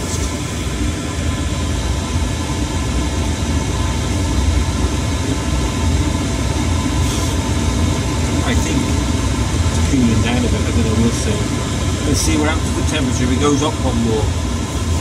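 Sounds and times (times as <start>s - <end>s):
faint fan tones: 0.0s - 15.0s
heater burner drone: 0.0s - 15.0s.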